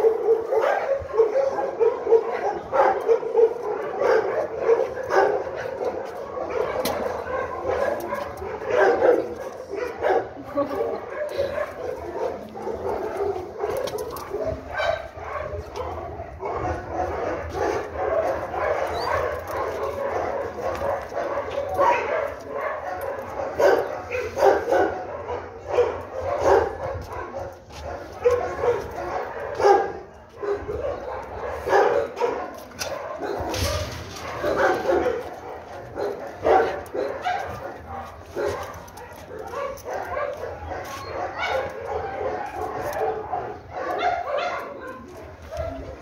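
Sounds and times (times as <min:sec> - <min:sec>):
dog barking: 0:00.0 - 0:46.0.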